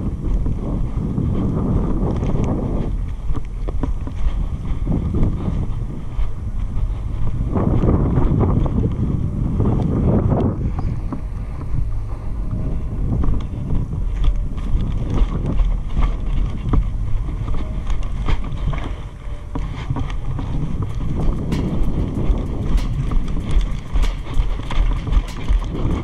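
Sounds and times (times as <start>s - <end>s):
footsteps on grass: 0.0s - 26.0s
wind buffeting microphone: 0.0s - 26.0s
dry branches scraping: 0.5s - 26.0s.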